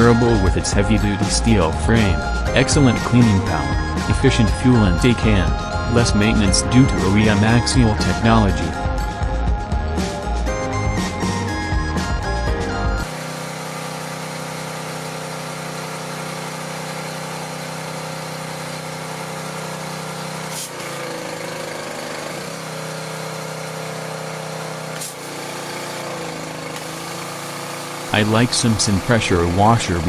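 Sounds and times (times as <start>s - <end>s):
pressure washer engine running: 0.0s - 30.0s.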